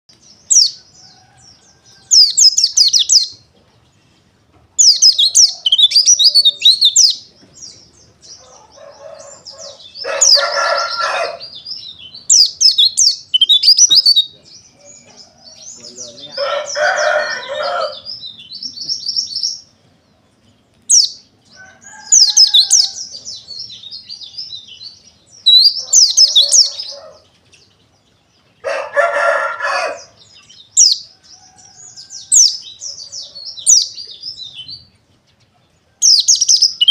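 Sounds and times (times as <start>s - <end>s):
bird twittering trills: 0.1s - 4.2s, 4.8s - 36.9s.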